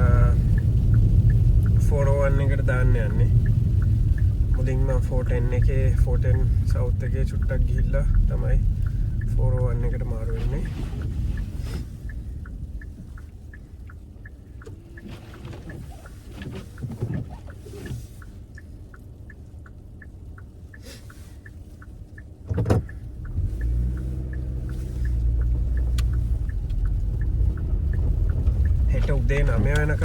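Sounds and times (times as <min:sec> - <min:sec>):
road and engine rumble: 0:00.0 - 0:30.0
turn signal ticking: 0:00.0 - 0:30.0.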